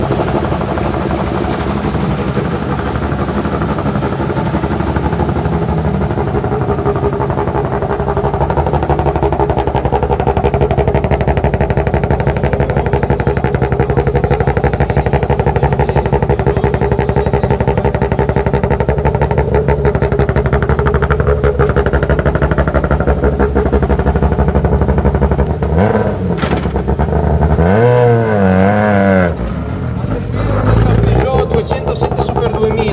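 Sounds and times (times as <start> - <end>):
engine revving: 0.0 - 32.9
rally car engine idling roughly: 0.0 - 32.9.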